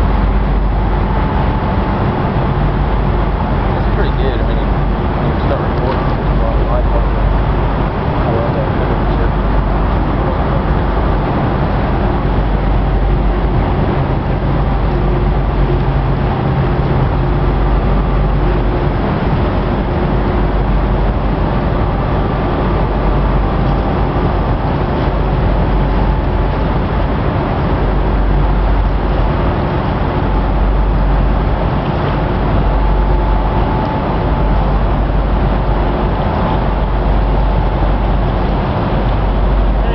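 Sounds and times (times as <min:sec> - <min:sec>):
diesel engines rumbling: 0:00.0 - 0:39.9.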